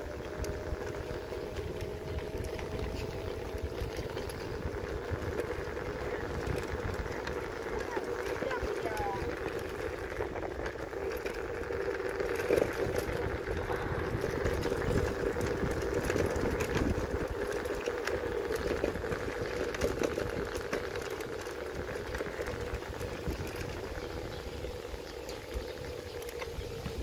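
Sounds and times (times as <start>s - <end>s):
scooter motor whine: 0.0s - 27.0s
wheels clicking over boards: 0.0s - 27.0s
wheels rumbling on planks: 0.0s - 27.0s.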